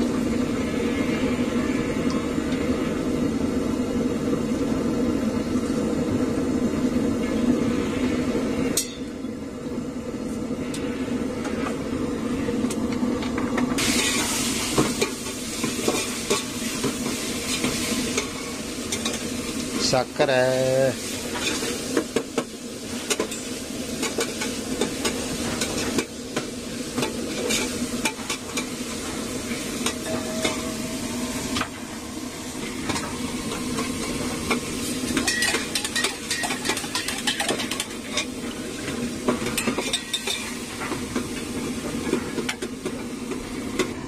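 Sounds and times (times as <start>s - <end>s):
steady hum: 0.0s - 44.0s.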